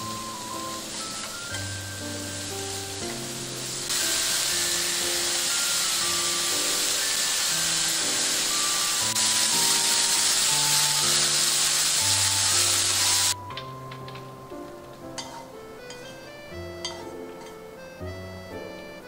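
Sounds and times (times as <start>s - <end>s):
carrots sizzling in hot oil: 0.0s - 13.4s, 15.0s - 17.6s.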